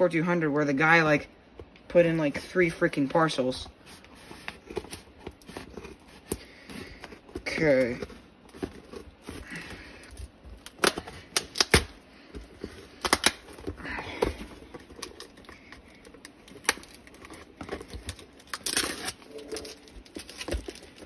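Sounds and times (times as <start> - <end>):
cardboard rustling: 2.9 - 21.0.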